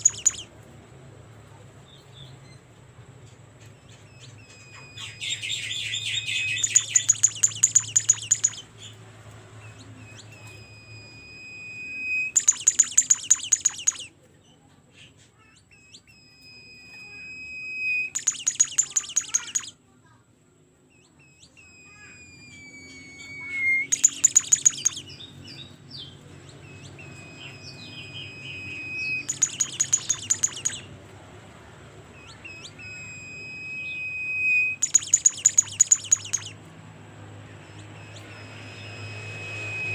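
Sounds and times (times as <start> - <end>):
songbird singing: 0.0 - 0.5, 3.6 - 9.0, 9.6 - 19.8, 20.9 - 31.0, 32.1 - 36.7, 37.4 - 39.9.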